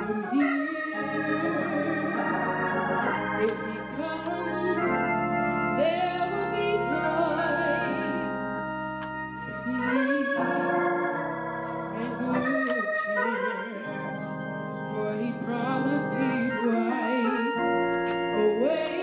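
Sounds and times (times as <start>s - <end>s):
organ playing sustained chords: 0.0s - 19.0s.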